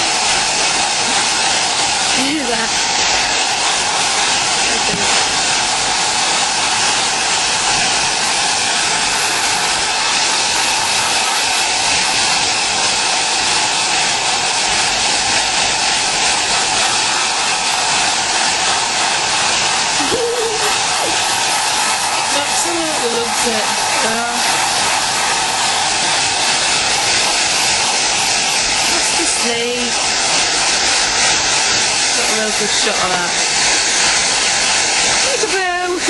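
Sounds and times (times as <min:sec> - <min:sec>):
hair dryer blowing: 0:00.0 - 0:36.0.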